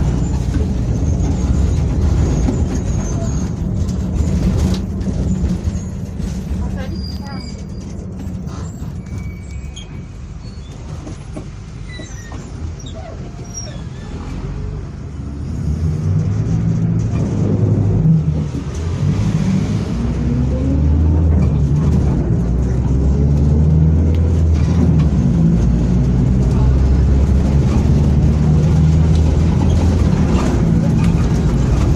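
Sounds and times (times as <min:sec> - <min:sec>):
bus engine running: 0:00.0 - 0:31.9.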